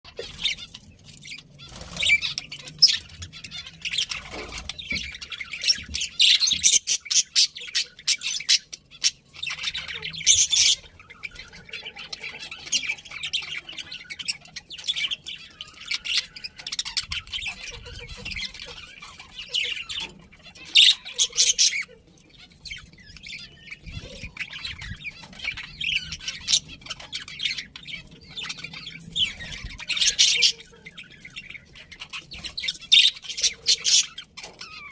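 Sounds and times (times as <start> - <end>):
budgerigars chirping and chattering: 0.1 - 34.9.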